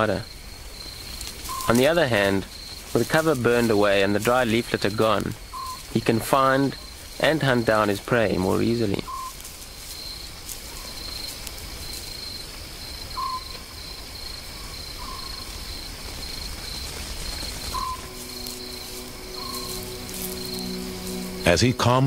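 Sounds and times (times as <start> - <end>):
owl hooting: 0.0 - 4.0, 4.8 - 7.8, 8.6 - 21.7
crickets chirping: 0.0 - 22.0.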